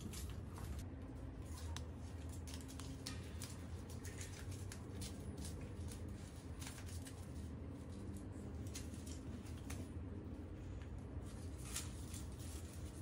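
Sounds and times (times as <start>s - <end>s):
paper crackling and rustling: 0.0s - 13.0s.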